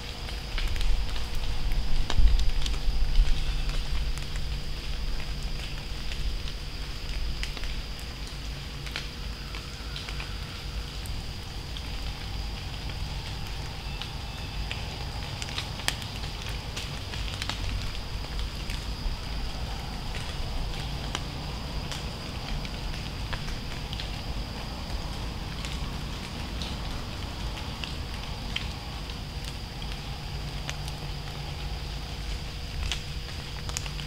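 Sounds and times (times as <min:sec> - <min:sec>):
acorns pattering on dry leaves: 0:00.0 - 0:34.0
low steady rumble: 0:00.0 - 0:34.0.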